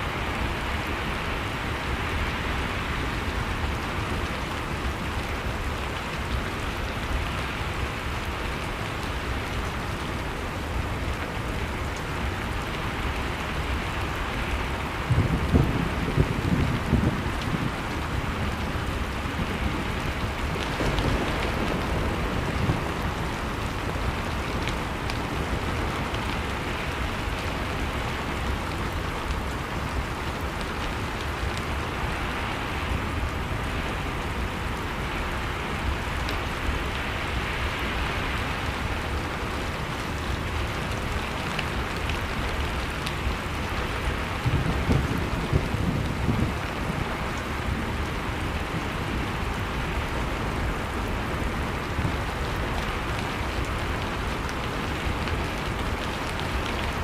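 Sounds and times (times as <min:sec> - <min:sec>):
wood fire crackling: 0:03.0 - 0:57.0.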